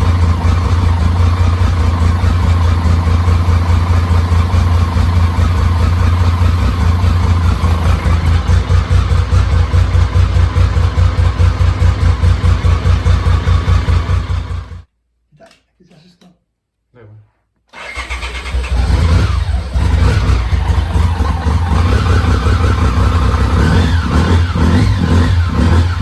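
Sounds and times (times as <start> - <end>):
motorcycle engine idling: 0.0 - 14.9, 18.3 - 26.0.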